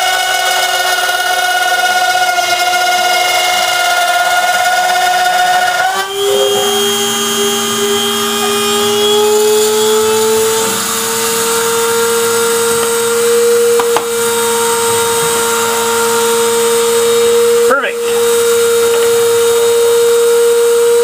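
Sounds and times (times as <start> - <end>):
router spindle motor whine: 0.0 - 21.0.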